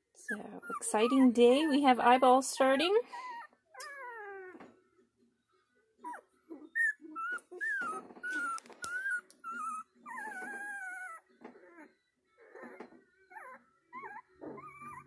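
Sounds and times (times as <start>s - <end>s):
puppy whining and crying: 0.2s - 15.0s.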